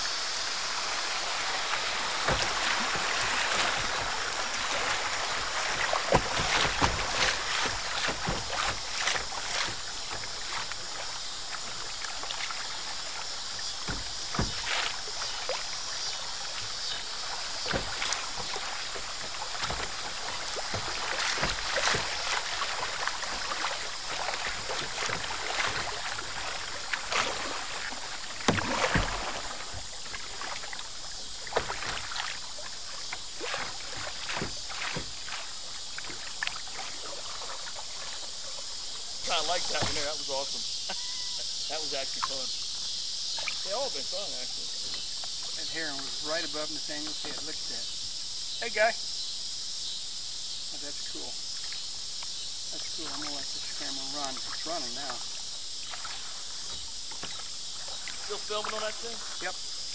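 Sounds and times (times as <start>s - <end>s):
water rushing along kayak hull: 0.0s - 59.9s
paddle splashes and knocks: 0.7s - 48.1s, 50.8s - 59.9s.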